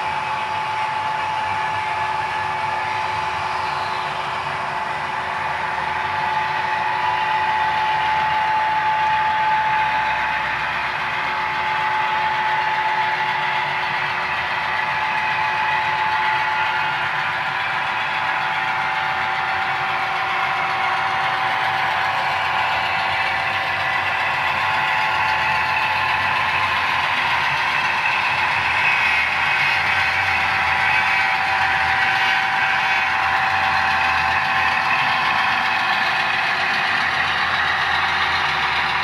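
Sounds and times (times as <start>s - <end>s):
model locomotive diesel drone: 0.0s - 39.0s
model train cars rolling on track: 0.0s - 39.0s.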